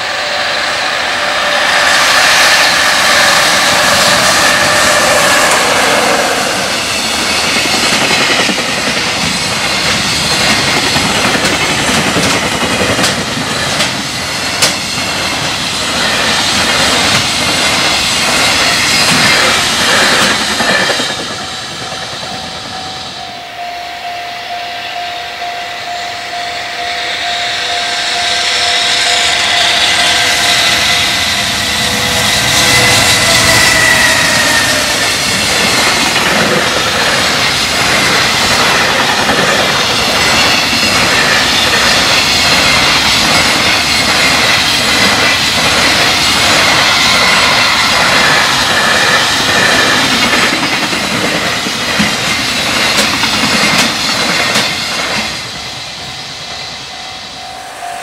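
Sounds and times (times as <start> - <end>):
train wheels clickety-clack: 0.0 - 23.2, 28.0 - 56.9
crossing warning bell ringing: 0.0 - 58.0
locomotive passing: 0.0 - 58.0.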